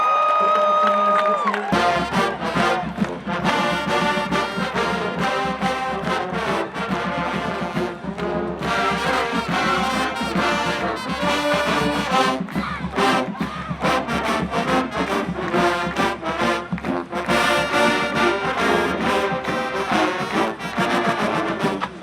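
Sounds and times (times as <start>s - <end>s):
brass playing: 1.7s - 22.0s
steady drum beat: 1.7s - 22.0s.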